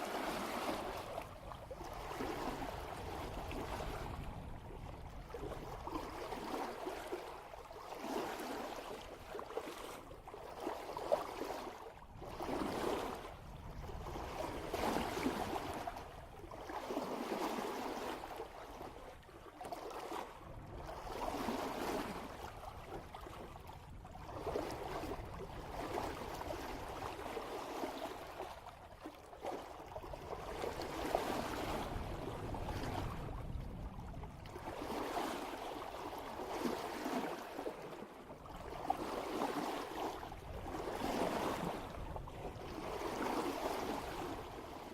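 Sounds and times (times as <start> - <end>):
water rushing along boat hull: 0.0 - 44.9.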